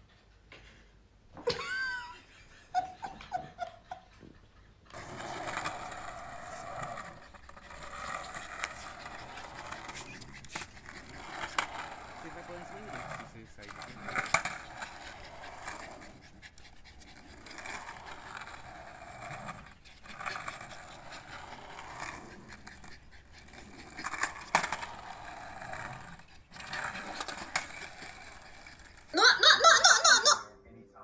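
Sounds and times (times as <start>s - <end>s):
skateboard wheels rolling on concrete: 2.7s - 30.4s.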